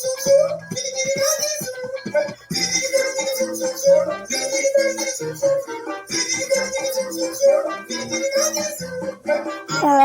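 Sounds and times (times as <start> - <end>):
upbeat children's song: 0.0 - 10.0.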